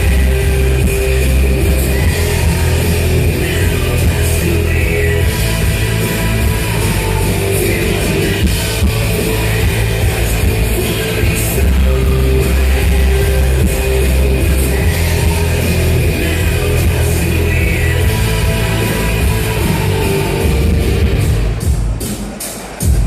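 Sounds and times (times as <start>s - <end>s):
distorted electric guitar: 0.0s - 23.0s
drum kit: 0.0s - 23.0s
heavy rock music: 0.0s - 23.0s.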